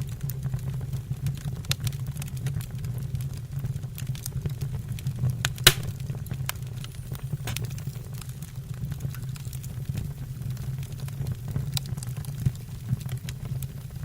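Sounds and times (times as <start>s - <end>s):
low rumble of flames: 0.0s - 14.0s
sharp snaps and pops of fire: 0.0s - 14.0s
wood fire crackling: 0.0s - 14.0s.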